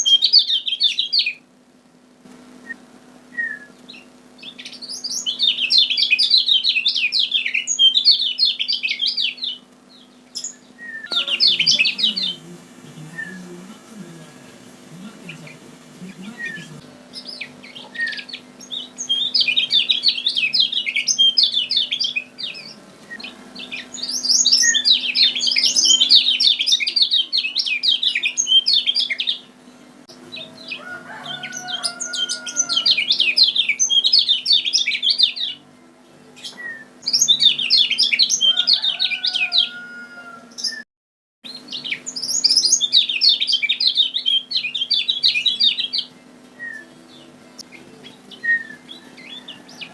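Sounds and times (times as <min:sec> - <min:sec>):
bird twittering song: 0:00.0 - 0:01.4, 0:03.4 - 0:13.5, 0:15.2 - 0:35.6, 0:36.4 - 0:39.9, 0:41.5 - 0:49.9
steady low hum: 0:00.0 - 0:39.0, 0:41.5 - 0:49.9.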